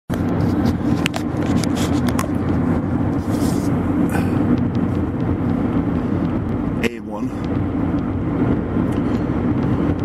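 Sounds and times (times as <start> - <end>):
car engine and road noise: 0.1 - 10.0.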